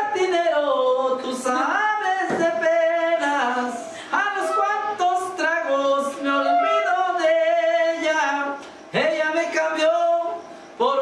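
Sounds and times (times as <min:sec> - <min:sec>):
person singing unaccompanied: 0:00.0 - 0:11.0.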